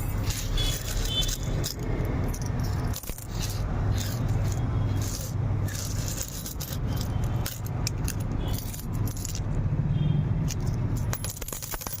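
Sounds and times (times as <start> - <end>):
coins clinking: 0.0 - 9.6, 10.4 - 12.0.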